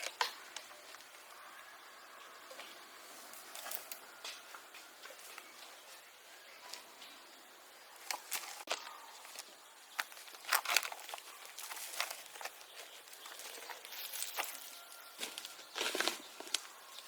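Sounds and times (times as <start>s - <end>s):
crunching and scraping: 0.0s - 1.5s, 2.3s - 17.0s.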